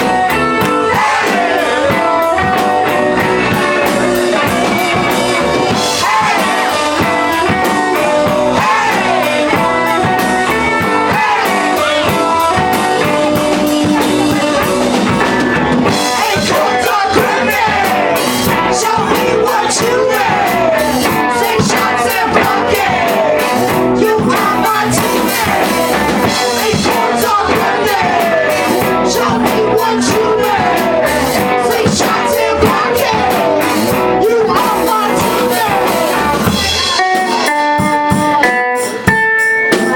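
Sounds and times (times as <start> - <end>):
drums and cymbals: 0.0 - 39.9
rock band playing: 0.0 - 39.9.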